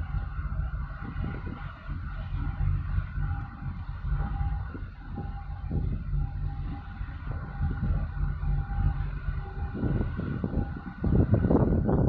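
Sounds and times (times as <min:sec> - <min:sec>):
faint hum of ship engines: 0:00.0 - 0:12.0
wind buffeting microphone: 0:00.0 - 0:12.0.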